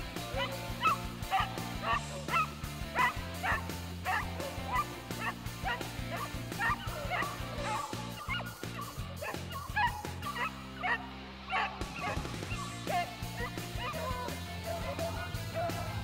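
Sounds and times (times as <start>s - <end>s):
background music with bass line: 0.0s - 16.0s
hounds baying: 0.0s - 16.0s.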